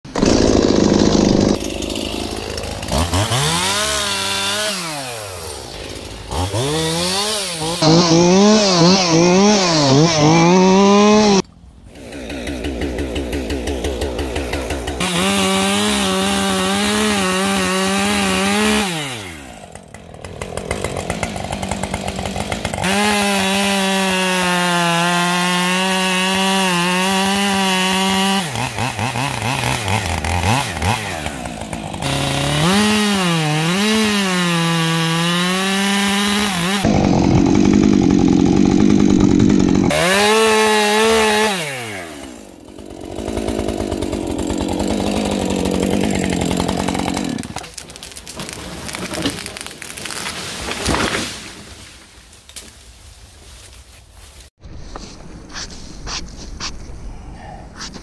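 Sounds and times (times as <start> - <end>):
chainsaw cutting tree trunk: 0.1 - 51.9.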